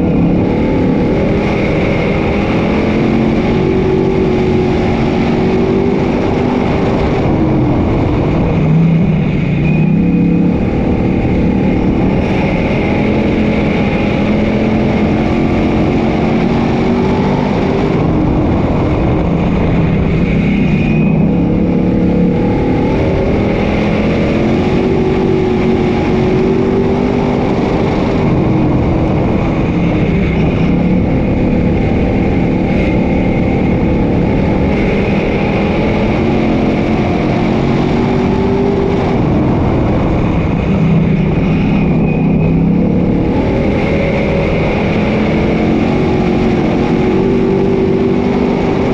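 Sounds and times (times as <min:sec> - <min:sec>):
race car engines revving: 0:00.0 - 0:48.9.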